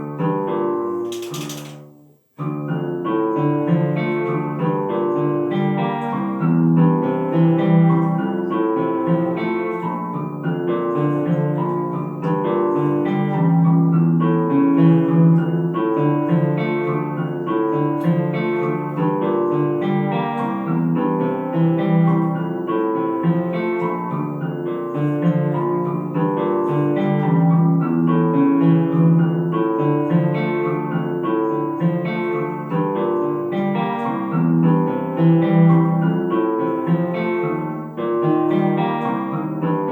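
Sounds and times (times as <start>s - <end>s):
keyboard: 0.0s - 39.9s
plucked guitar: 0.9s - 39.9s.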